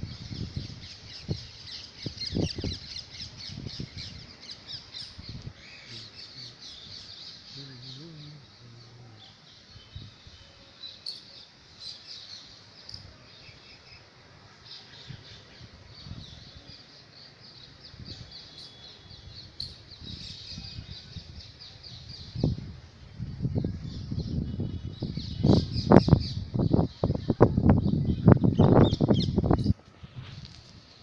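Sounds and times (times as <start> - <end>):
small birds chirping: 0.0 - 29.8.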